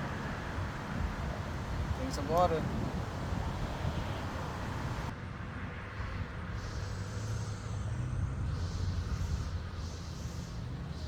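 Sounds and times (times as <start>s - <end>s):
low rumble of street traffic: 0.0s - 11.0s.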